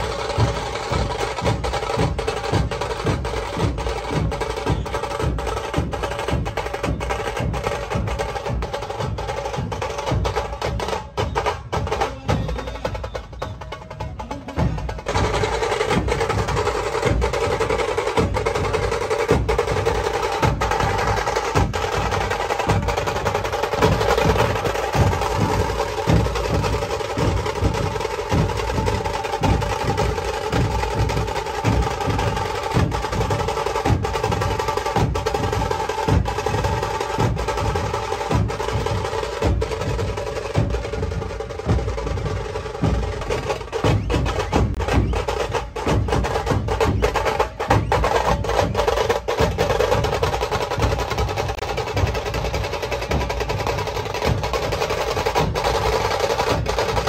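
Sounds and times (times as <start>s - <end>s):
barrel drums beating a rhythm: 0.0s - 57.0s.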